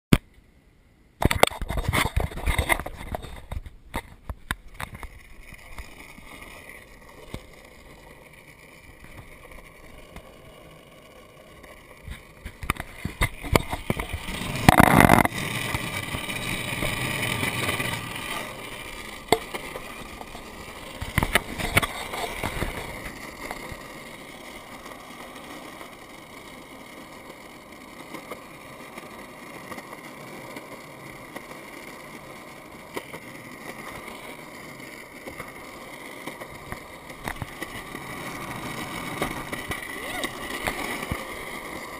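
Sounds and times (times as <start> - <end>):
longboard wheels rolling on asphalt: 0.1 - 41.9.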